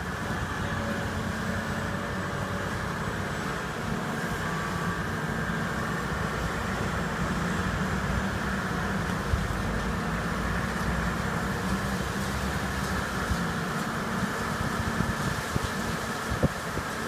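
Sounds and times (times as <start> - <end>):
diesel engine low drone: 0.0 - 17.0.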